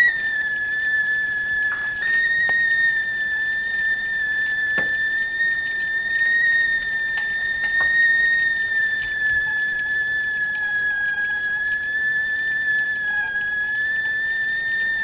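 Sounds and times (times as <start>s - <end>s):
kettle whistling: 0.0s - 15.0s.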